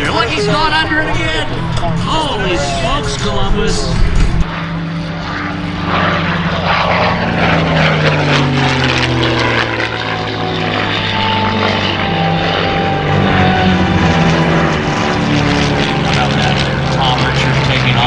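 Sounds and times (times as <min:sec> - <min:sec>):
propeller airplane engine: 0:00.0 - 0:18.0.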